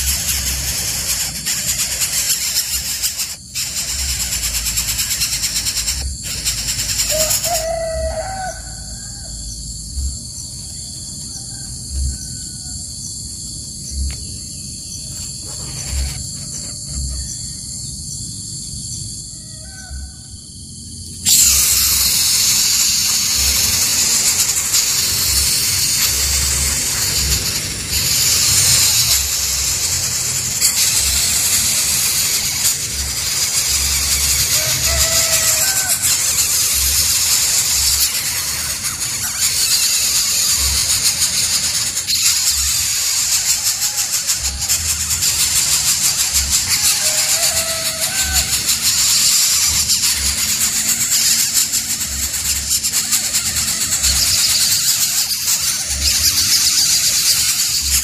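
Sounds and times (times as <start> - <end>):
nestlings harsh hissing begging calls: 0.0 - 58.0
steady high drone: 0.0 - 58.0.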